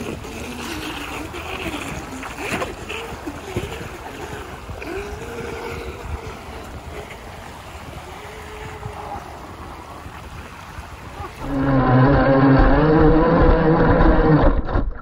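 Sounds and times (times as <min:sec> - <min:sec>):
small waves washing on shore: 0:00.0 - 0:14.3
model boat motors whining: 0:00.0 - 0:14.7
wind on microphone: 0:00.0 - 0:15.0.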